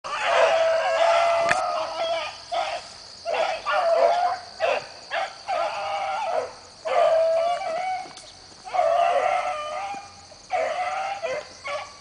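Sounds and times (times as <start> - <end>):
beagle baying: 0.1 - 12.0.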